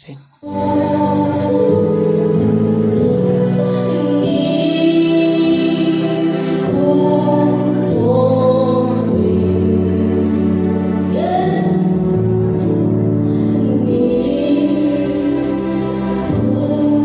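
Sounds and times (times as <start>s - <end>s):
gospel singing over chords: 0.4s - 17.0s.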